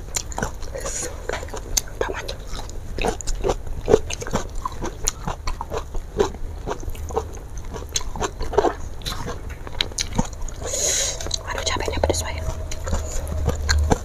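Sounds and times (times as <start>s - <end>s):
wet chewing and mouth clicks: 0.0s - 14.0s.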